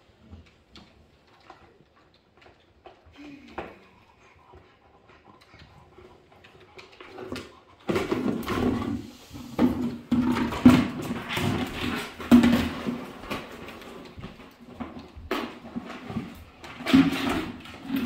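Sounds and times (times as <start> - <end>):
dog pushing plastic bucket on floor: 0.0 - 18.0.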